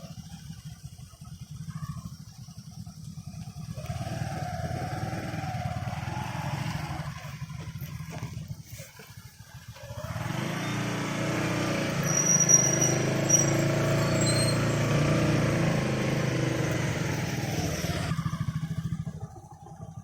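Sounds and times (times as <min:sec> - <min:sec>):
engine running with low throb: 0:00.0 - 0:20.0.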